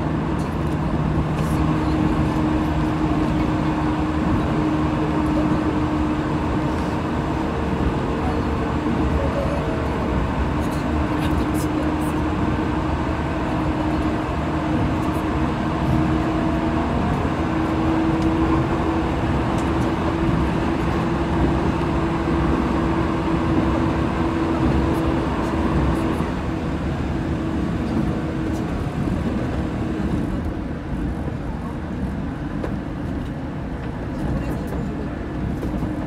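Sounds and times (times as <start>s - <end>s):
train wheels and motors rumbling: 0.0s - 36.0s.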